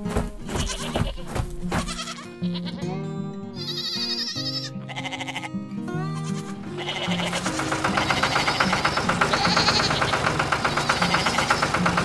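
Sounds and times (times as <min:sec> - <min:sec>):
sheep bleating: 0:00.5 - 0:11.8.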